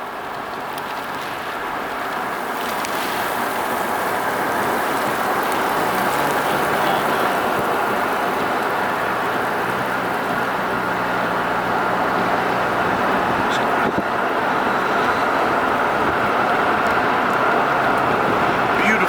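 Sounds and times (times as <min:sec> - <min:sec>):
low engine hum: 0:00.0 - 0:19.0
road and wind noise: 0:00.0 - 0:19.0.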